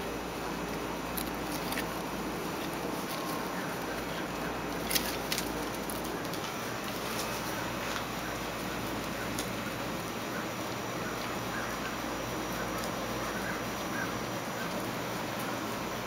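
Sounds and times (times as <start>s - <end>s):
puppies rustling in mulch: 0.0s - 16.0s.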